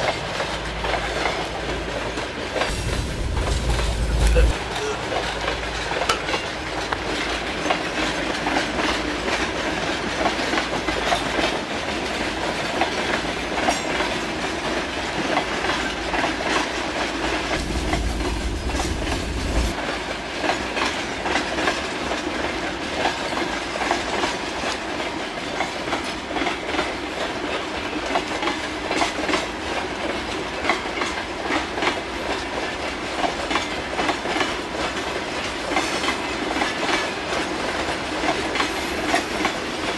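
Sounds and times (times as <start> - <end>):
train rumbling: 0.0 - 39.9
train wheels clicking over rail joints: 0.0 - 39.9.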